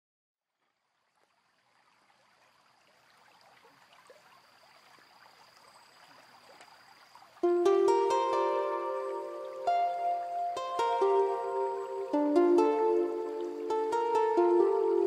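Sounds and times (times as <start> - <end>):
faint crackling hiss: 1.0 - 15.0.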